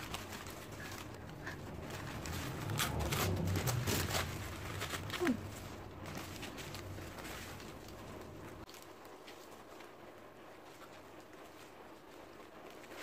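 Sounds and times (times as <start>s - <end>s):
paper wrapping rustling: 0.0s - 13.0s.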